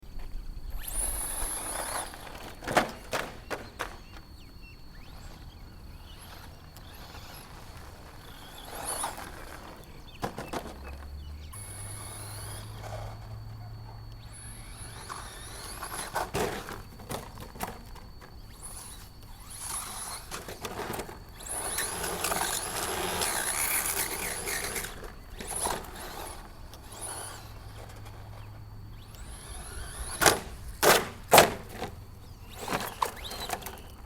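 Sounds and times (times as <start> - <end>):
electric motor whining: 0.1 - 34.0.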